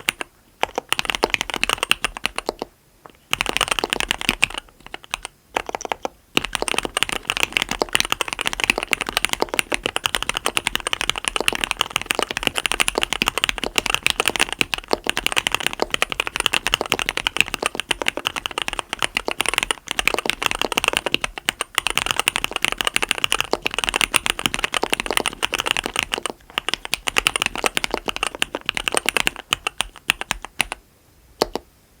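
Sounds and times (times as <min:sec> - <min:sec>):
typing on mechanical keyboard: 0:00.0 - 0:02.7, 0:03.3 - 0:30.8, 0:31.4 - 0:31.6.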